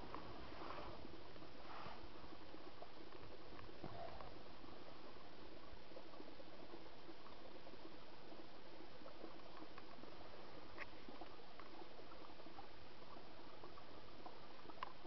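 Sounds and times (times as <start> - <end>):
small ticks and drips: 0.0 - 15.0.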